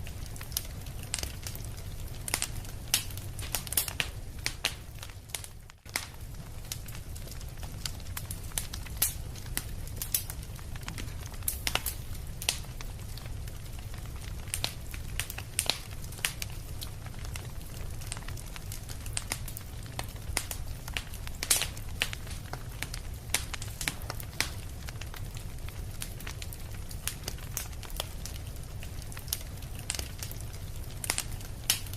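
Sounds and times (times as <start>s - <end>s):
fire crackling and popping: 0.0s - 31.9s.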